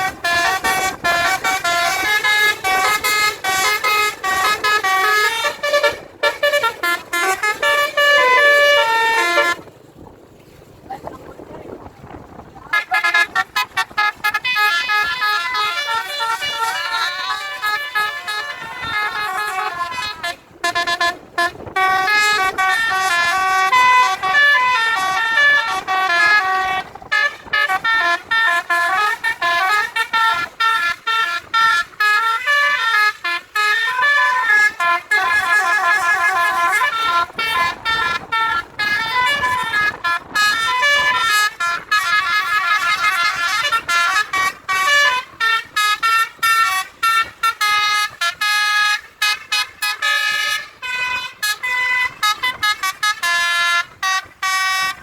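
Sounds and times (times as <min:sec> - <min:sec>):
multi-tone bus air horns: 0:00.0 - 0:10.2, 0:11.8 - 0:55.0.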